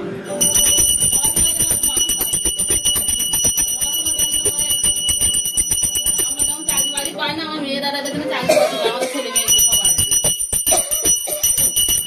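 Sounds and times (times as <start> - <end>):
hand bell ringing rapidly: 0.3 - 7.3, 9.2 - 12.0.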